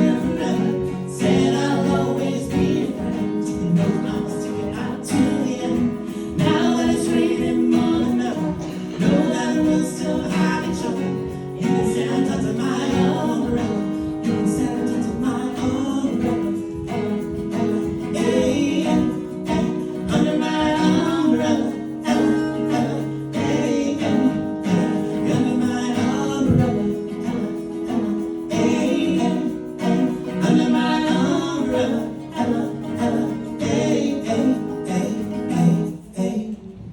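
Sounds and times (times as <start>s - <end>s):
person singing: 0.0s - 36.9s
plucked acoustic guitar: 0.0s - 36.9s.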